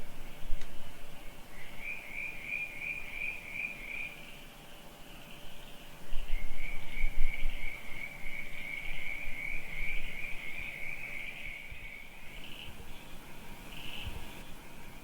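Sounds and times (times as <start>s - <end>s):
crickets trilling: 0.0s - 15.0s
pulsing insect trill: 1.1s - 15.0s.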